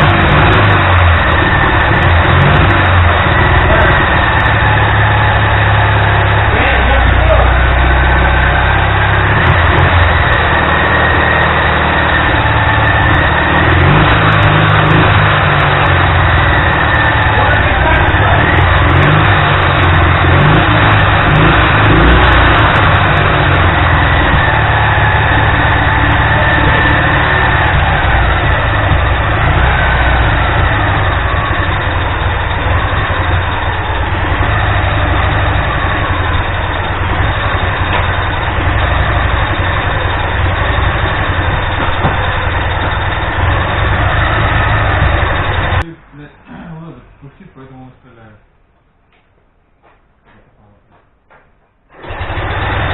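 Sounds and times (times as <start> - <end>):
motorcycle engine idling and revving: 0.0 - 45.9, 51.3 - 52.9.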